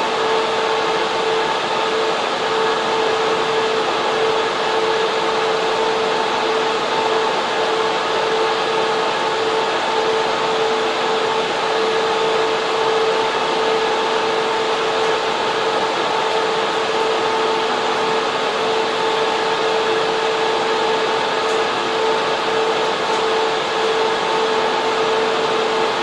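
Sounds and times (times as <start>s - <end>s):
server fans hissing: 0.0s - 26.0s.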